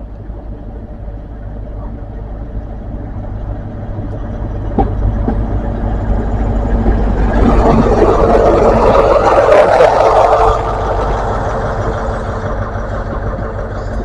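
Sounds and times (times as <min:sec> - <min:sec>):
diesel train engine running: 0:00.0 - 0:14.0.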